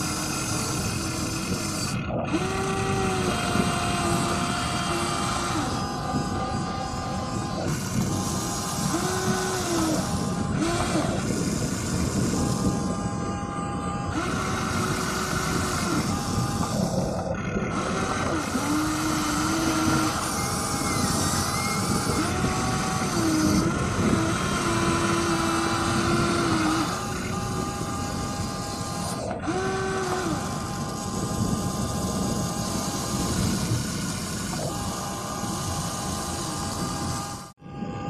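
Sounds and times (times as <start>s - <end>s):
electric motors whining: 0.0s - 38.0s.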